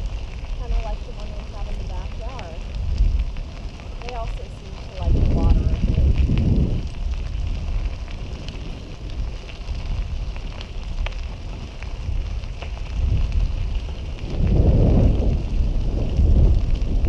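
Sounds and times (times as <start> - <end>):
bicycle tyres rolling on gravel: 0.0 - 17.0
wind rumble on microphone: 0.0 - 17.0.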